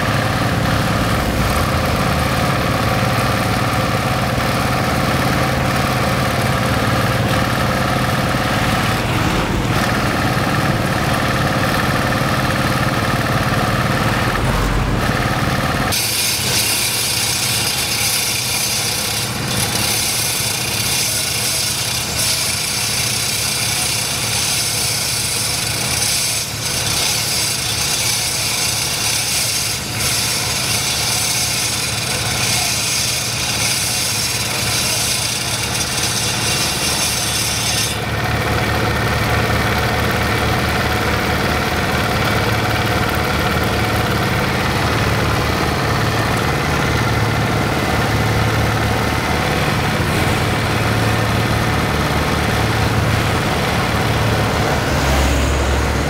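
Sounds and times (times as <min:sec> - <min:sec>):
diesel engine chugging: 0:00.0 - 0:56.0
saw blade grinding into road: 0:00.0 - 0:56.0.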